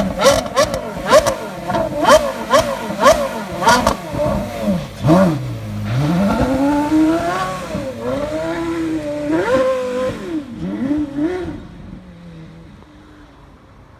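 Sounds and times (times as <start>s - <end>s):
sports car engine revving: 0.0s - 13.4s.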